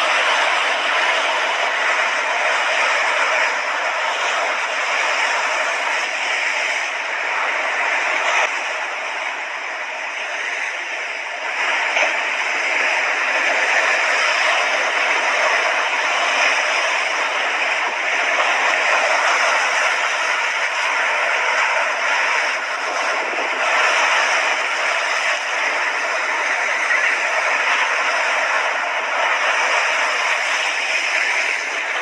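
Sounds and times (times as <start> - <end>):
sea waves washing onto beach: 0.0 - 32.0.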